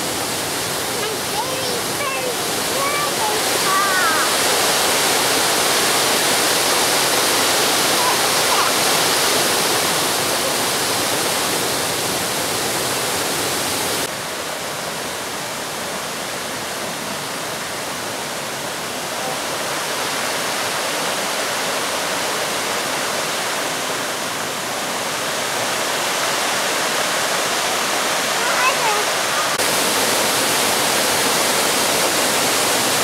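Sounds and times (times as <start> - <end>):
water rushing over rocks: 0.0 - 33.0.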